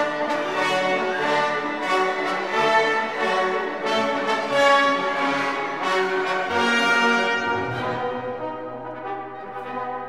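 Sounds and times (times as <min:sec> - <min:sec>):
orchestral music with brass: 0:00.0 - 0:10.0.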